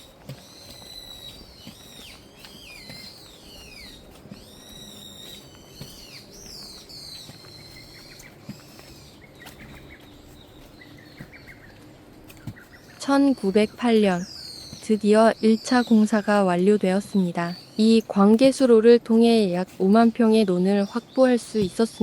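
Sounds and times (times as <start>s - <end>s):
birds singing whistled notes: 0.0s - 22.0s.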